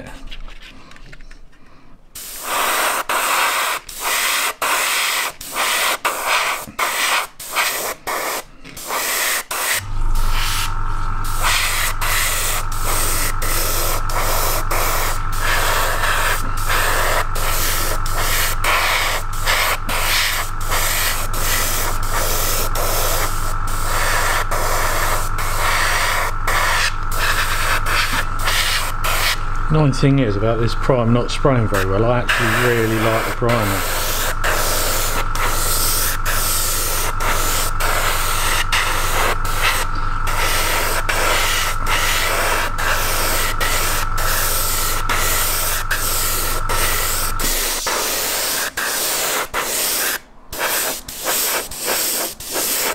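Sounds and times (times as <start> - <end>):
air compressor humming: 1.6 - 52.9
airbrush spraying hissing bursts: 2.1 - 52.9.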